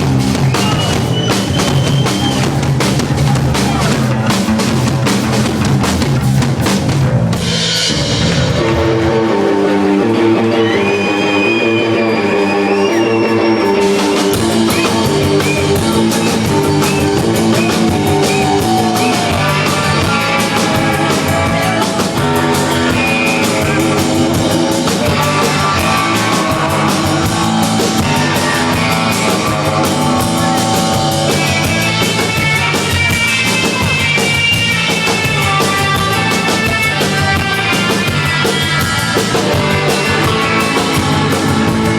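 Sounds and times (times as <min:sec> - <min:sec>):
drum kit with cymbals: 0:00.0 - 0:10.8, 0:12.9 - 0:41.9
electric guitars: 0:00.0 - 0:41.9.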